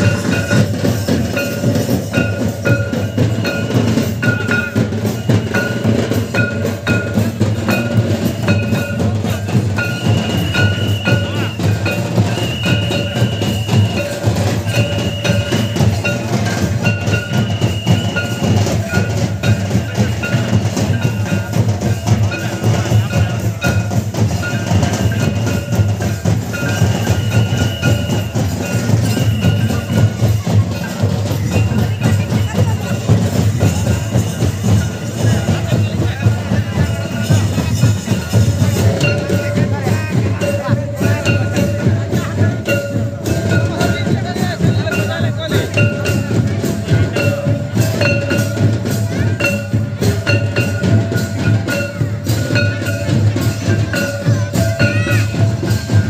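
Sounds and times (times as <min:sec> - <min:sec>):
barrel drums beating: 0:00.0 - 0:56.0
high repeating melody: 0:00.0 - 0:56.0.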